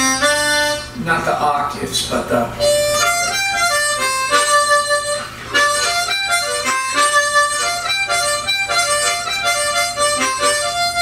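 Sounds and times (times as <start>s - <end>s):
blues harmonica playing: 0.0s - 1.2s, 2.6s - 11.0s.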